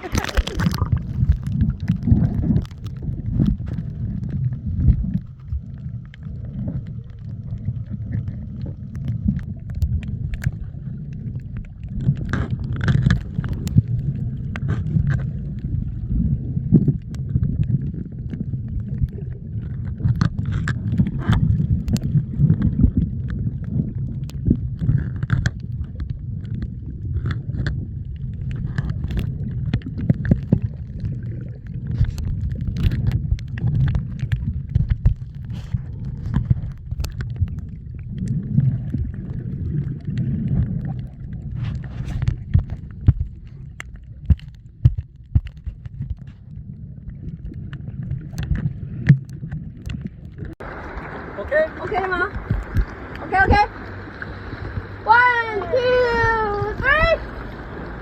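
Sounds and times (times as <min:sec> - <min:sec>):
muffled low rumble: 0:00.0 - 0:58.0
water sloshing and gurgling: 0:00.0 - 0:58.0
water splashes: 0:00.0 - 0:58.0.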